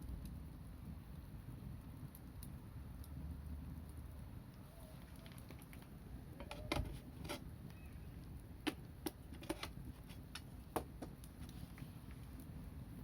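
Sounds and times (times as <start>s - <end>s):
campfire crackling: 0.0s - 13.0s
low fire rumble: 0.0s - 13.0s.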